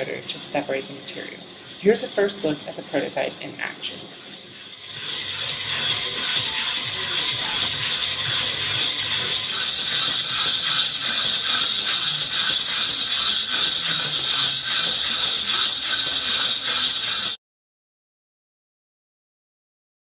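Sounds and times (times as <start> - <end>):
shredder rotor whirring: 0.0 - 17.4.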